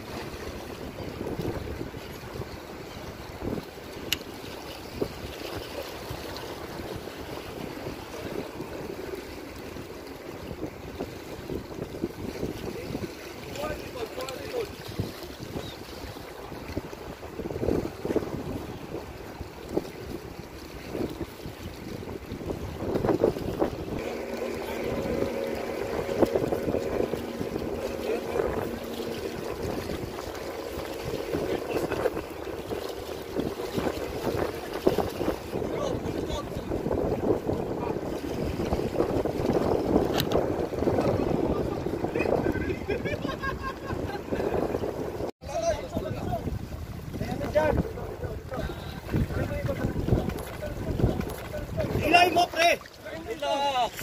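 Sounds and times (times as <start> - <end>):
small waves washing against rocks: 0.0 - 45.0
wind noise on microphone: 0.0 - 54.0.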